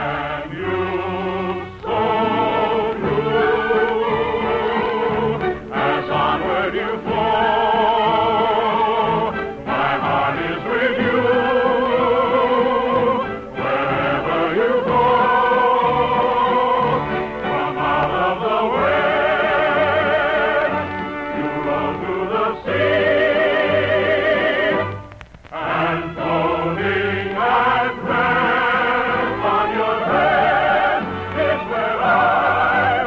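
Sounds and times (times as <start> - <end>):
operetta singing: 0.0 - 33.0.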